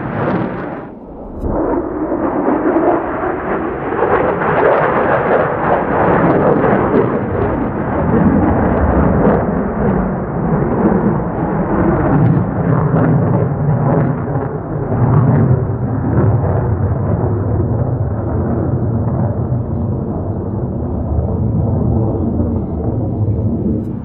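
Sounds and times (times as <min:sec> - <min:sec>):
jet engine afterburner rumble: 0:00.0 - 0:24.0.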